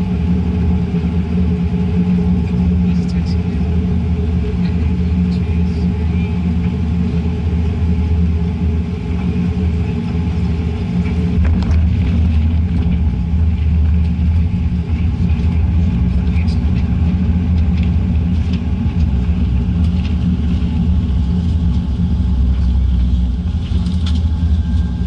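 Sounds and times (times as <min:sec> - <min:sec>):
airliner cabin drone: 0:00.0 - 0:25.0.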